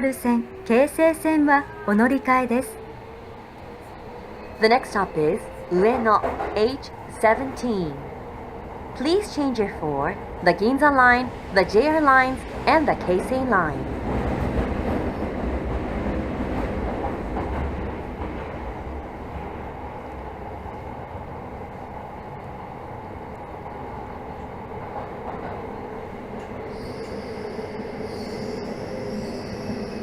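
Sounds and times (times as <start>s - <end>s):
subway car wheels rumbling: 0.0s - 30.0s.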